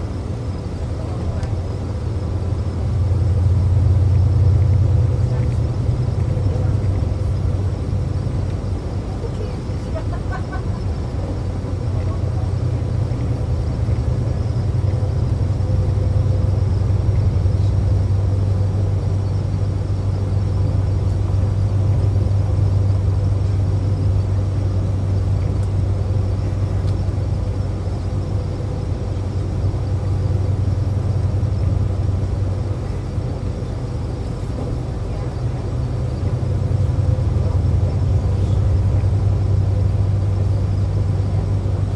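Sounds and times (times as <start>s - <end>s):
car engine and tyre noise: 0.0s - 41.9s.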